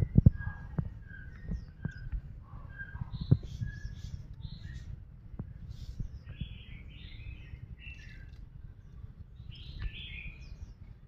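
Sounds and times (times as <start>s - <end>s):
bird twittering chirps: 0.0s - 11.0s
low background rumble: 0.0s - 11.0s.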